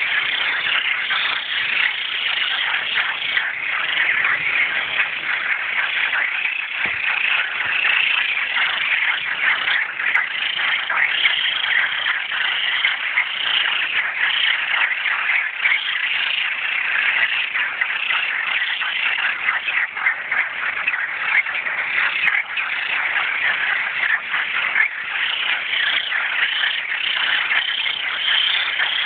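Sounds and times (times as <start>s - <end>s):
frogs chorus calling: 0.0s - 29.0s.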